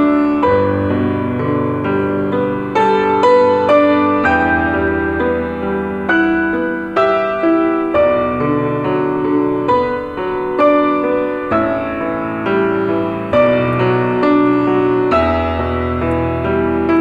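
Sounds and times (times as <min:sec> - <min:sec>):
slow gentle piano: 0:00.0 - 0:17.0.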